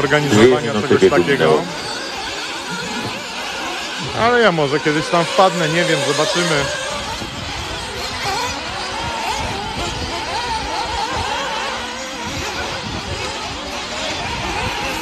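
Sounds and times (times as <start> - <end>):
toy car motors whining: 0.0 - 15.0.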